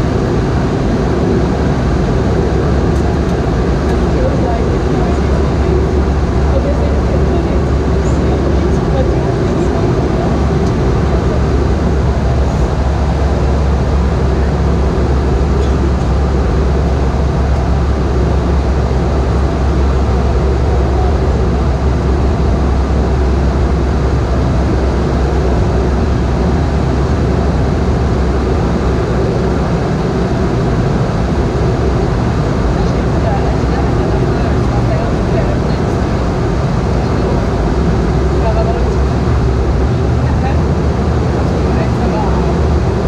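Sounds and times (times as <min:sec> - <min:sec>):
airliner cabin drone: 0:00.0 - 0:43.0.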